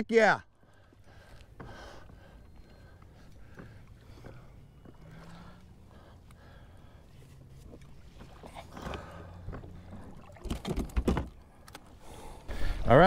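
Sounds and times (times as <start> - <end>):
water and hull sounds: 0.5 - 13.0.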